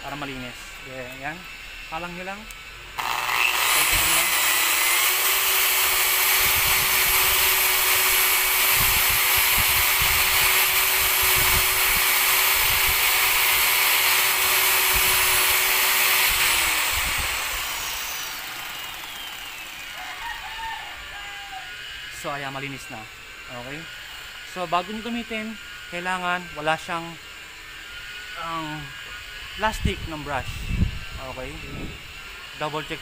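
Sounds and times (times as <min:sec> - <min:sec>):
rotary polisher whining: 0:00.0 - 0:20.2, 0:20.9 - 0:33.0.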